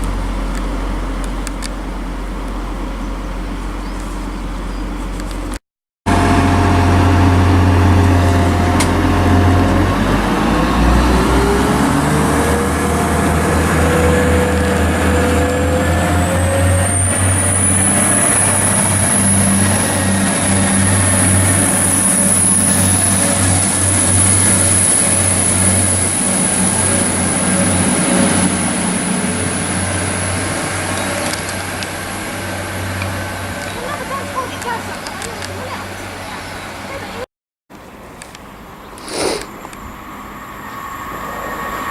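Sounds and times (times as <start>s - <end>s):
high whine: 0.0s - 36.5s, 38.3s - 41.9s
diesel train engine rumbling: 0.0s - 41.9s.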